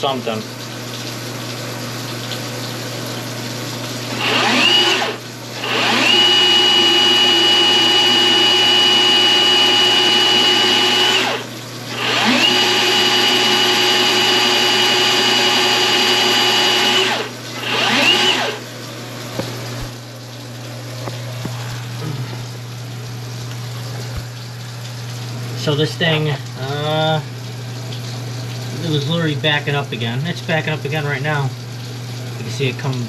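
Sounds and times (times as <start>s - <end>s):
drain machine motor whining: 0.0s - 33.0s.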